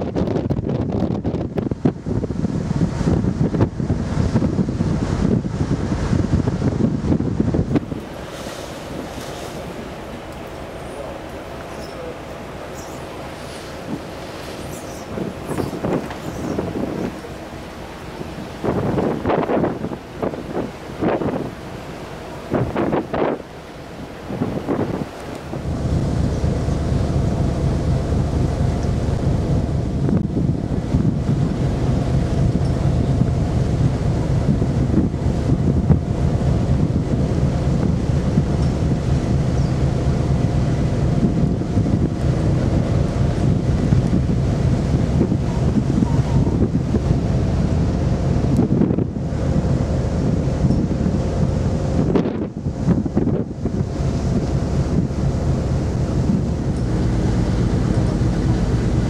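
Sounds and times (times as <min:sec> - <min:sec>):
churning wake rushing: 0:00.0 - 0:59.0
ferry engine rumble: 0:00.0 - 0:59.0
ship machinery hum: 0:00.0 - 0:59.0
wind buffeting microphone: 0:00.0 - 0:59.0.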